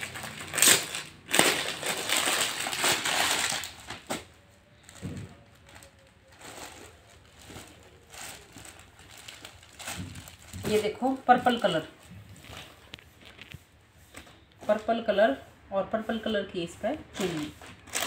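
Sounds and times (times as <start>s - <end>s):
fabric rustling and crinkling: 0.0s - 15.2s, 17.2s - 18.0s.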